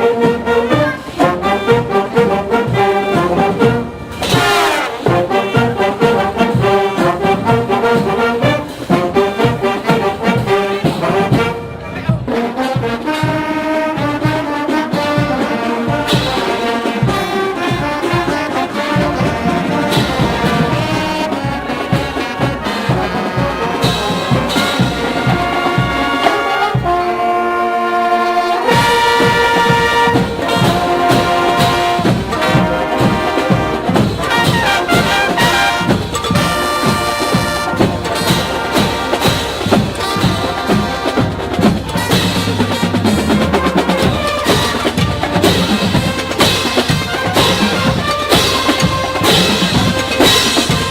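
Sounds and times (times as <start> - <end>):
steady drum beat: 0.0 - 27.2, 28.6 - 50.9
marching band brass tune: 0.0 - 50.9.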